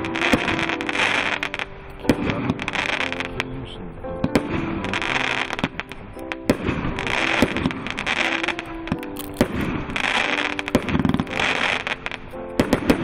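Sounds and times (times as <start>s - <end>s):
background music: 0.0s - 13.0s
fireworks bangs: 0.0s - 13.0s
fireworks crackling: 0.0s - 13.0s.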